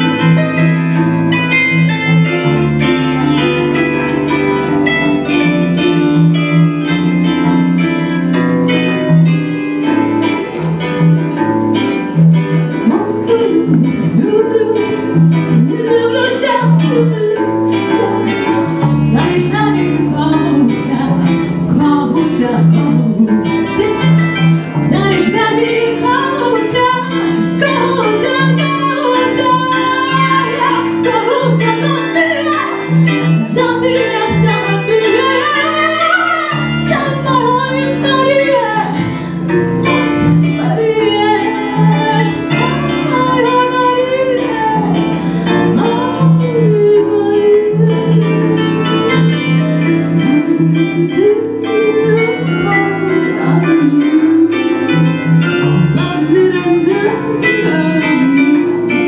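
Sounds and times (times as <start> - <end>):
plucked bandura: 0.0 - 59.0
woman singing a folk song: 11.7 - 59.0.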